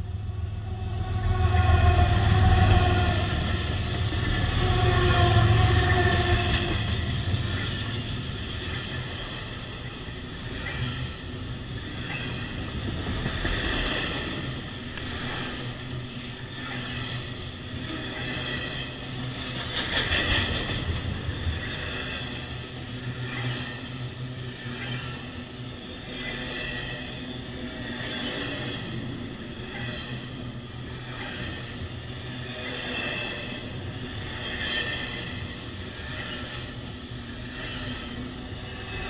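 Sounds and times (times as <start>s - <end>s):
locomotive engine drone: 0.0s - 39.0s
train wheels rumbling on rails: 0.0s - 39.0s.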